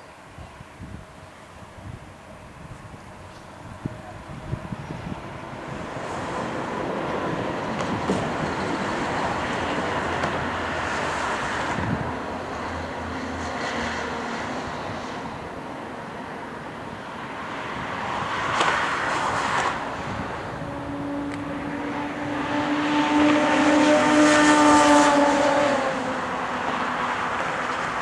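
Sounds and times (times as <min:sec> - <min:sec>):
wind on microphone: 0:00.3 - 0:12.8, 0:16.6 - 0:28.0
distant jet engine roar: 0:01.1 - 0:28.0.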